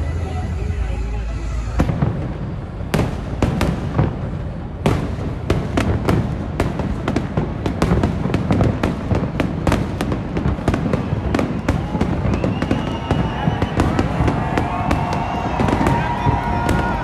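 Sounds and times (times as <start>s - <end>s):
rumble of distant bursts: 0.0s - 17.0s
fireworks bangs: 1.6s - 17.0s.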